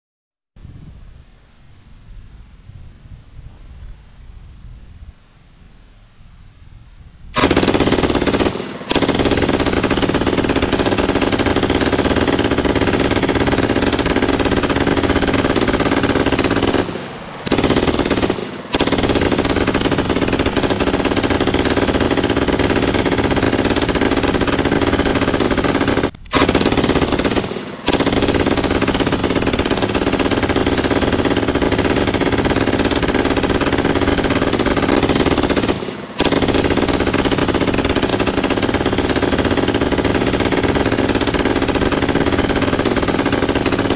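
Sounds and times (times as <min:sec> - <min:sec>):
slowed machine gun fire: 0:07.4 - 0:43.9.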